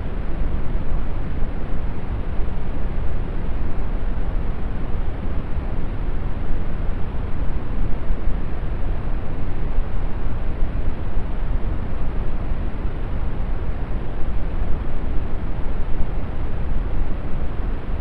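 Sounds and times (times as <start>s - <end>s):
brown noise rumbling hiss: 0.0s - 18.0s.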